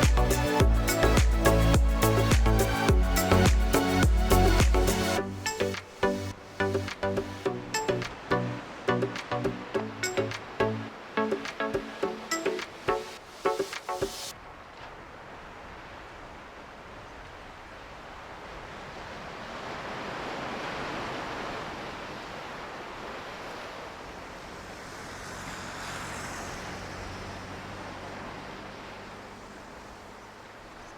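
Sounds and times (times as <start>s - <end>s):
waves breaking: 0.0s - 30.9s.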